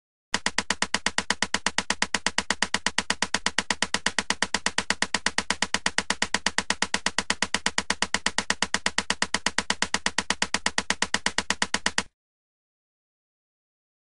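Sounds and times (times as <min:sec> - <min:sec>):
engine clicking: 0:00.4 - 0:12.1.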